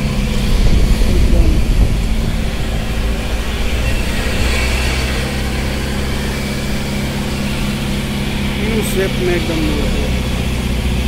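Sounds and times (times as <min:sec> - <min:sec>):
road and wind noise: 0:00.0 - 0:11.0
vehicle engine humming: 0:00.0 - 0:11.0.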